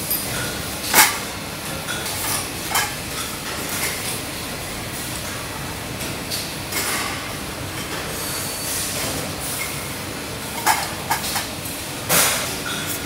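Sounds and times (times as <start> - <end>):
factory background hiss: 0.0 - 13.0.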